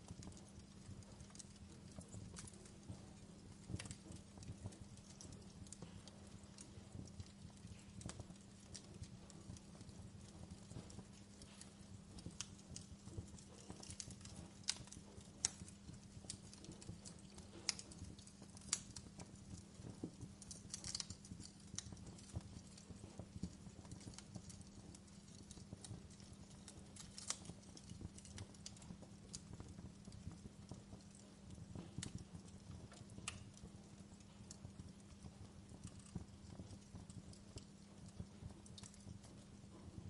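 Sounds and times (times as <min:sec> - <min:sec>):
fire low rumble: 0:00.0 - 0:40.0
wood fire crackling: 0:00.0 - 0:40.0.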